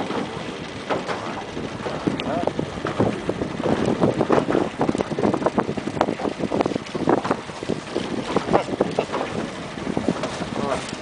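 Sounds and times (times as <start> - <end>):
water splashing against boat: 0.0 - 11.0
wind buffeting microphone: 0.0 - 11.0.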